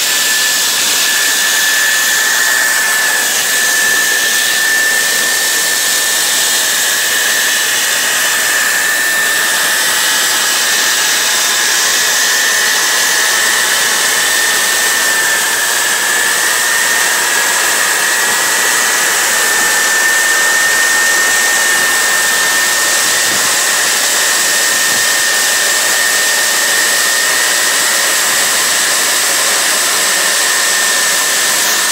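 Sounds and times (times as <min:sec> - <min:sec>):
high-pitched whine: 0:00.0 - 0:31.9.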